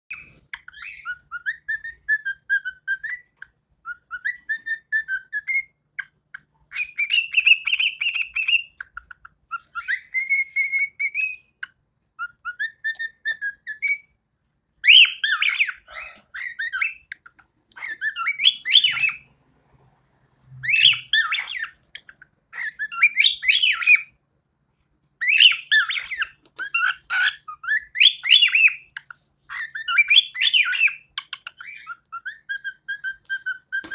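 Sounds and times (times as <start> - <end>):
cockatiel warbling: 0.1 - 14.0, 14.8 - 19.3, 20.6 - 24.1, 25.2 - 33.9
cockatiel whistling: 0.1 - 14.2, 14.8 - 19.3, 20.6 - 24.2, 25.2 - 33.9.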